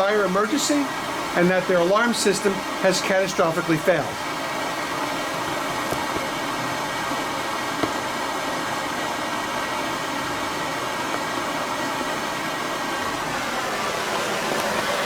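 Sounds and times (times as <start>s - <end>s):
faint hum: 0.0s - 15.0s
steady background hiss: 0.0s - 15.0s.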